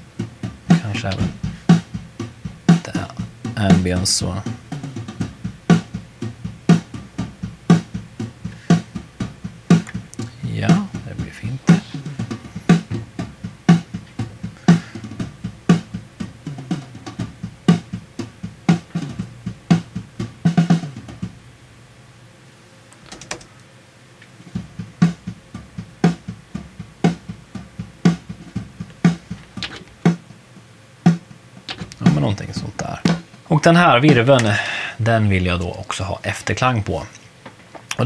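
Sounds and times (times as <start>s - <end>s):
drum kit playing a beat: 0.0s - 21.6s, 24.4s - 37.2s, 37.8s - 38.0s.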